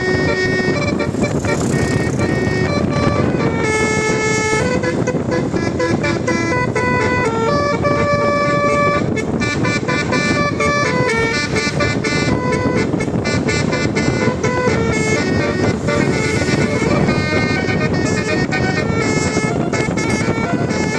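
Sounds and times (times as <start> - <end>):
musical air horn melody: 0.0 - 20.9
steady noisy rumble: 0.0 - 20.9.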